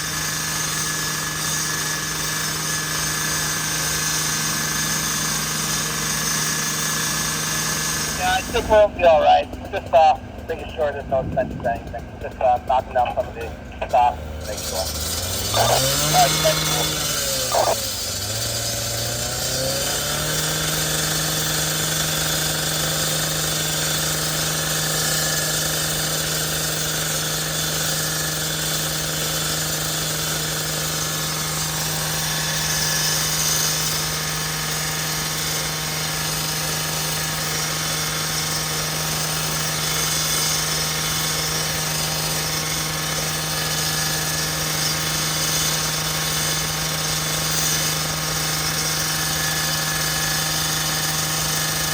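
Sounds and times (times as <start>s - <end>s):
engine revving and humming: 0.0s - 51.9s.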